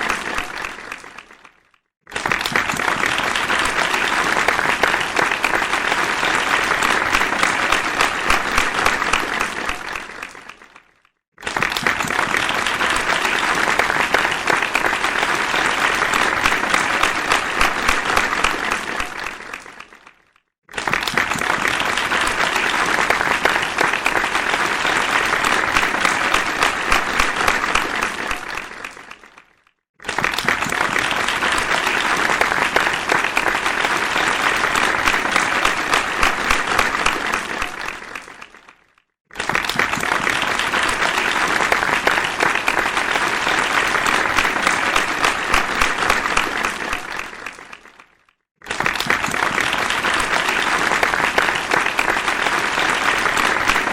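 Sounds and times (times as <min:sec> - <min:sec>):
crowd applause: 0:00.0 - 0:53.9.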